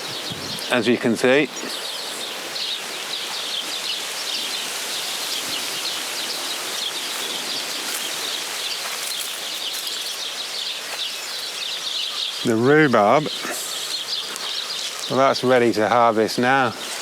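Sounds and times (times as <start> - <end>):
birds twittering: 0.0 - 17.0
outdoor hiss: 0.0 - 17.0.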